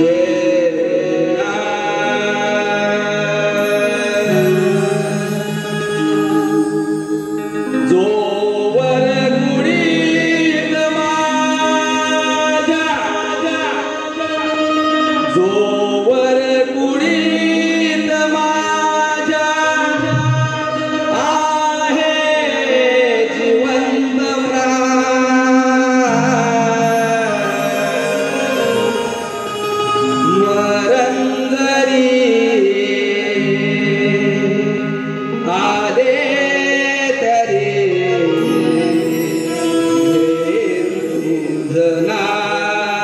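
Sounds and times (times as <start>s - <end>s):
instrumental accompaniment: 0.0s - 43.0s
man singing into microphone: 0.0s - 43.0s.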